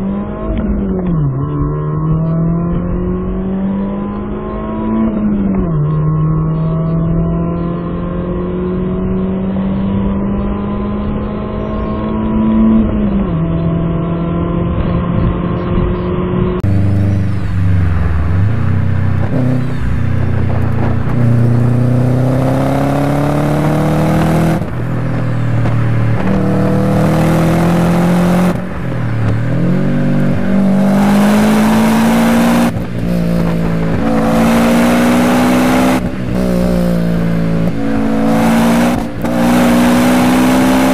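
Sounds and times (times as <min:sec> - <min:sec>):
car accelerating hard through gears: 0:00.0 - 0:40.9
car engine pulling at speed: 0:00.0 - 0:40.9.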